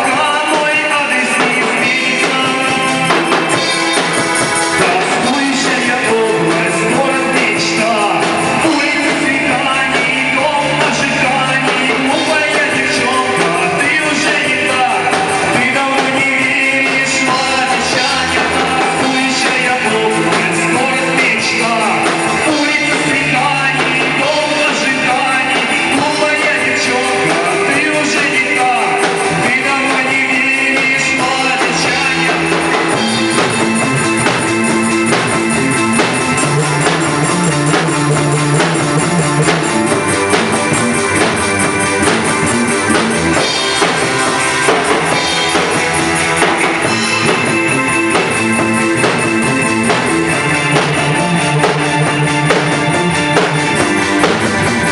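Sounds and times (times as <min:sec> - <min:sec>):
band playing: 0:00.0 - 0:54.9
person singing: 0:00.0 - 0:54.9.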